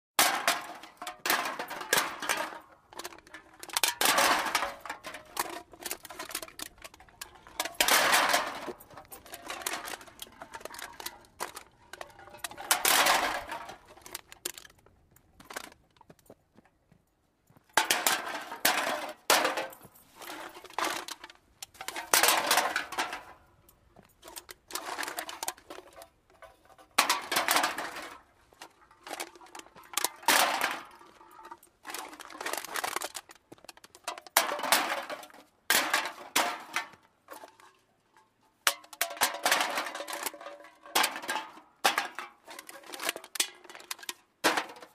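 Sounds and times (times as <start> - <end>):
cans clattering into a cart: 0.2 - 14.7, 17.8 - 23.4, 24.2 - 37.8, 38.6 - 44.9.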